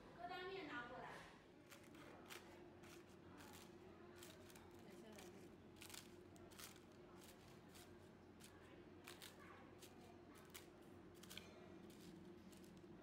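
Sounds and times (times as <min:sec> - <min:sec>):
crisp fried shell crackling: 0:01.6 - 0:12.9.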